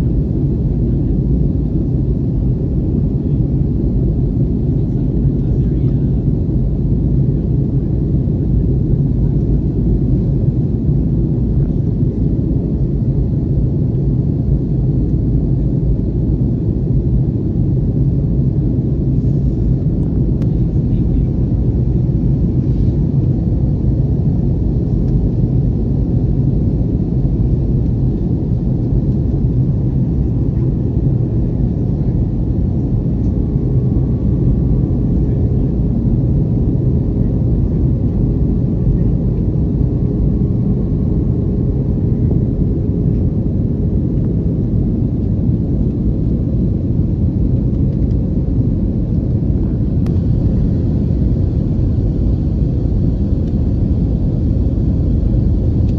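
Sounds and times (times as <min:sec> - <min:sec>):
jet engine cabin rumble: 0:00.0 - 0:55.9.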